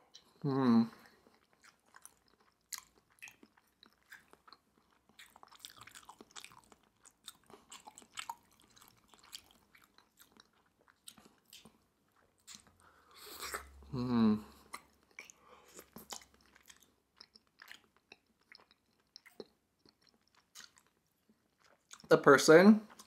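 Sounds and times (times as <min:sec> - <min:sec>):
chewing mouth clicks and smacks: 0:01.0 - 0:13.8, 0:14.6 - 0:22.1.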